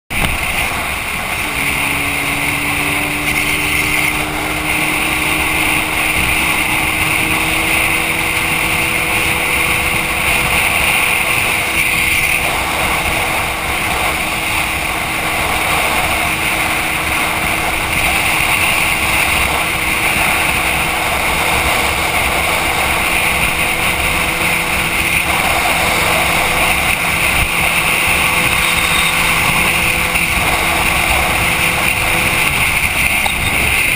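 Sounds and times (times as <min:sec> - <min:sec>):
motorcycle engine cruising: 0:00.1 - 0:33.9
wind rush on microphone: 0:00.1 - 0:33.9.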